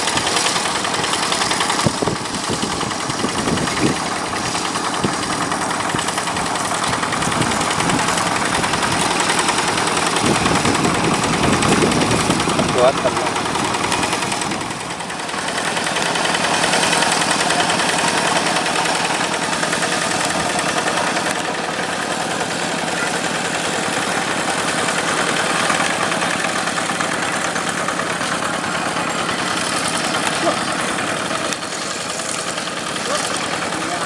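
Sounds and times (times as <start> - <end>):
tractor diesel engine pulsing: 0.0 - 34.0.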